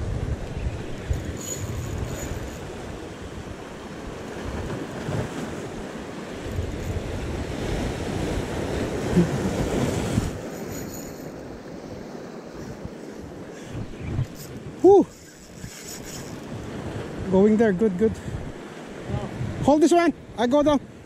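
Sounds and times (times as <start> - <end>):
wind buffeting microphone: 0.0 - 21.0
waves breaking against rocks: 0.4 - 19.7.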